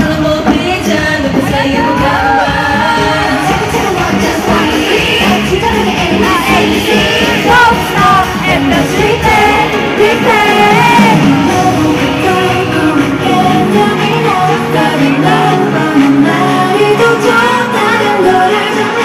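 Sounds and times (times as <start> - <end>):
group singing: 0.0 - 19.0
live pop music over sound system: 0.0 - 19.0.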